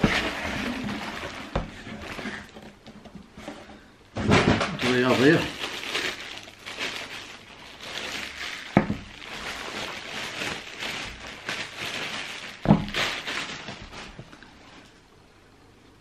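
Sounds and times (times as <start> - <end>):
plastic bag crinkling: 0.0 - 2.8, 4.3 - 15.0.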